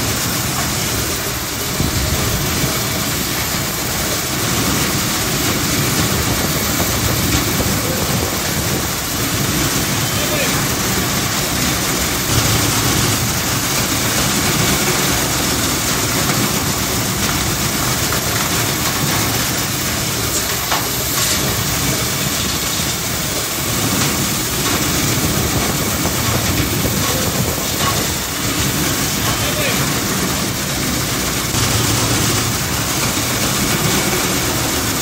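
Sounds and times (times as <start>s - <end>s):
compressed air rushing in duct: 0.0s - 35.0s.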